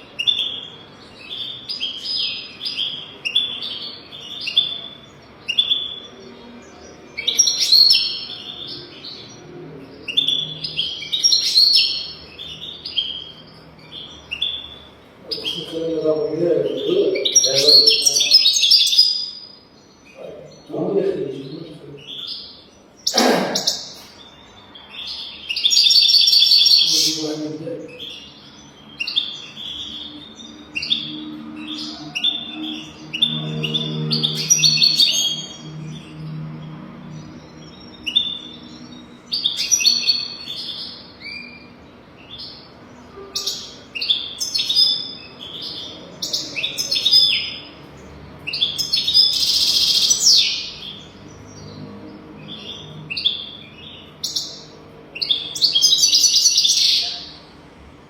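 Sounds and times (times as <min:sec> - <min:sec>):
bird singing high chirps: 0:00.0 - 0:57.5.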